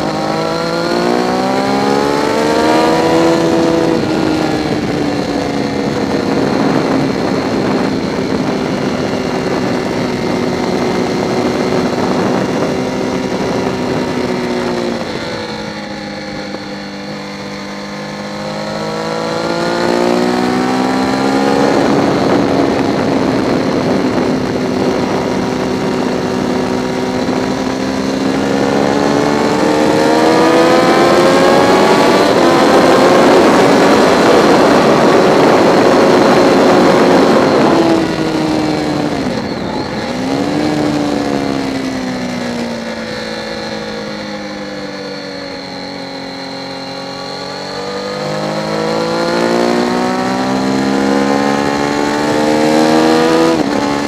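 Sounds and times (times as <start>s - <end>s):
motorcycle engine at speed: 0.0s - 54.0s
road and wind noise: 0.0s - 54.0s.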